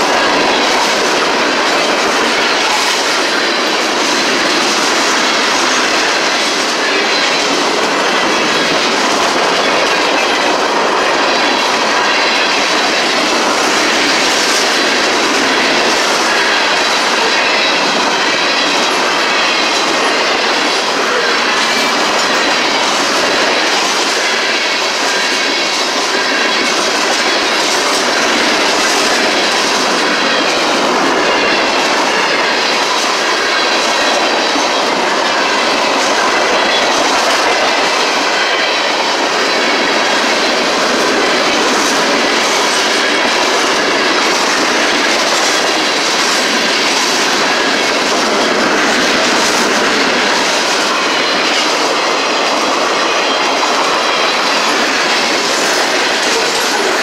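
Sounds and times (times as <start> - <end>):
clickety-clack over rail joints: 0.0 - 57.0
train wheels rumbling on rail: 0.0 - 57.0.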